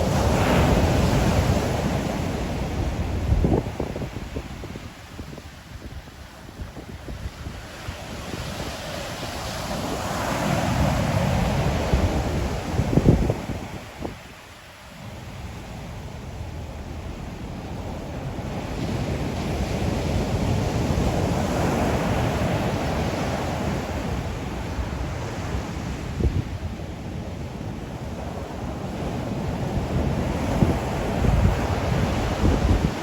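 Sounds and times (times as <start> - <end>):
sea waves washing onto shore: 0.0 - 33.0
wind buffeting microphone: 0.0 - 33.0.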